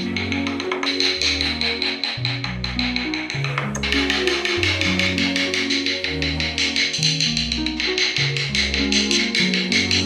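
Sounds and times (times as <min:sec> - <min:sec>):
instrumental music with bass line: 0:00.0 - 0:10.0.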